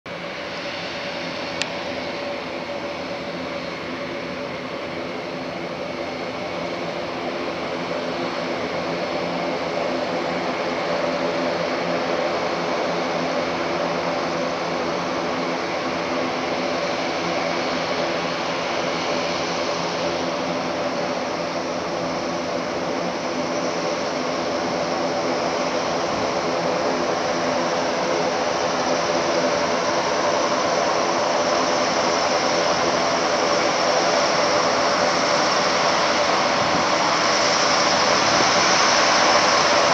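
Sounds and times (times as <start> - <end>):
turboprop engines droning: 0.1 - 39.9.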